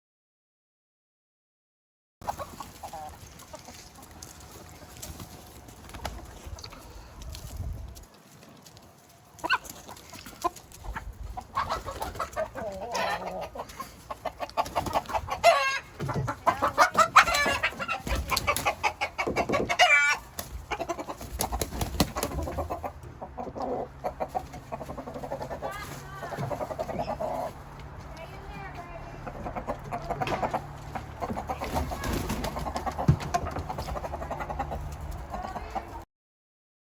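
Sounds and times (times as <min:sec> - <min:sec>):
chickens clucking: 0:02.2 - 0:36.1.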